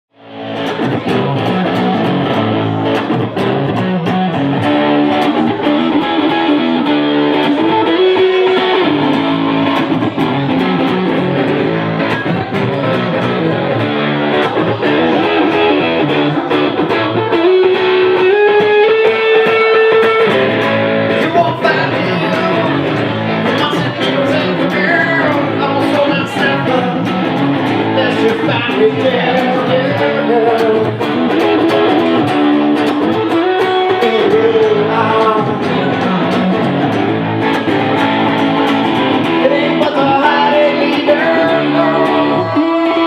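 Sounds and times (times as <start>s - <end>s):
electric guitar bending notes: 0.1s - 43.0s
backing band steady beat: 0.4s - 43.0s.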